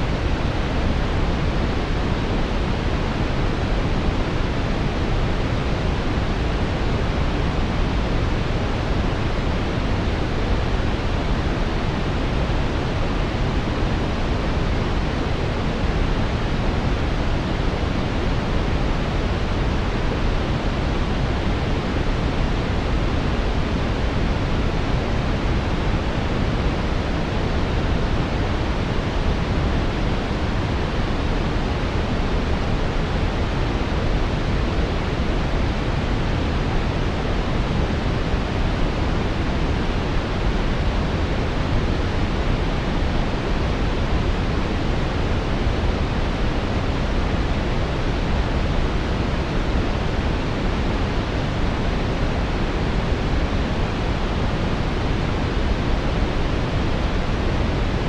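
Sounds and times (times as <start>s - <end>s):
deep brown noise hiss: 0.0s - 58.0s.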